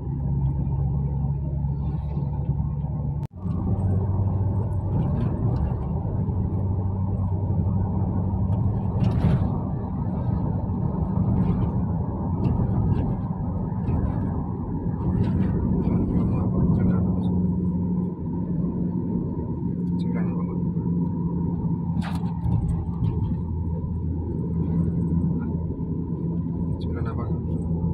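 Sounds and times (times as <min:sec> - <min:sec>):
car engine drone: 0:00.0 - 0:27.9
road noise inside car: 0:00.0 - 0:27.9.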